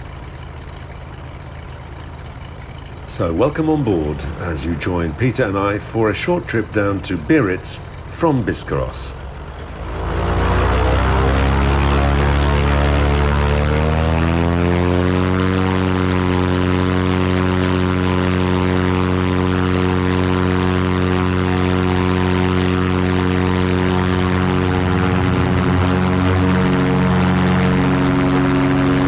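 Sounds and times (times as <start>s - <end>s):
aircraft piston engines and propellers: 0.0s - 29.0s.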